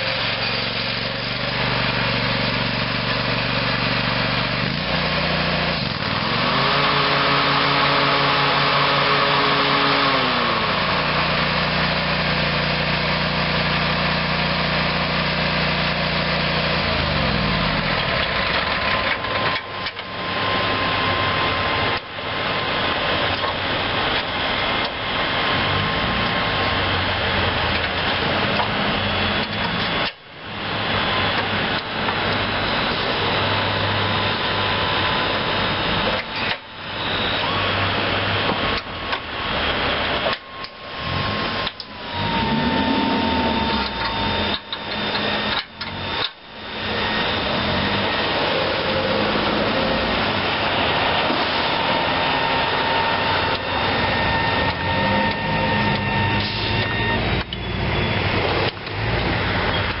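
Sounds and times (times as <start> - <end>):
lawn mower engine running: 0.0 - 60.0.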